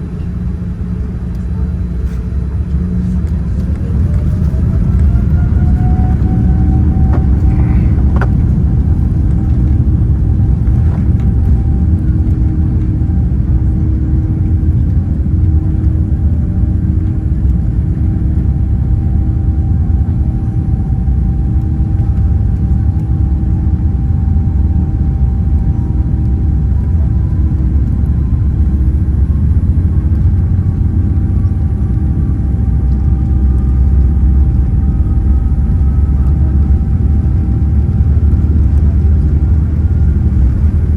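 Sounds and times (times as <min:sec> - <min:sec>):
faint whine: 0:00.0 - 0:40.9
jet engine cabin rumble: 0:00.0 - 0:40.9.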